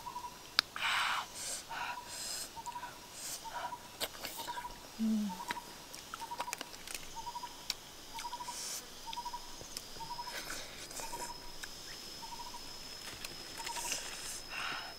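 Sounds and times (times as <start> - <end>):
high insect whine: 0.0 - 14.9.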